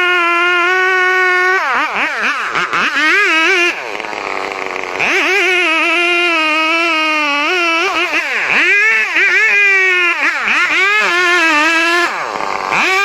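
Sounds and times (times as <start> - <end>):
chainsaw cutting: 0.0 - 13.0.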